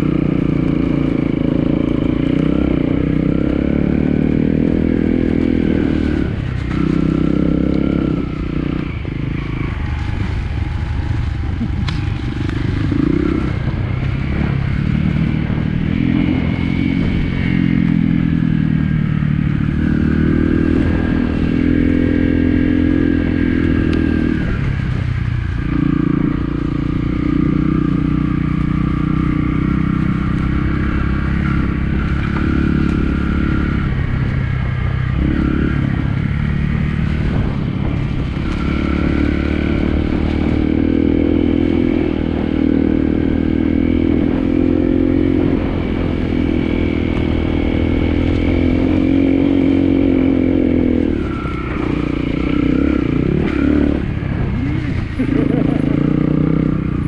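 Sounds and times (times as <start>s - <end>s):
motorcycle engine revving under load: 0.0s - 57.0s.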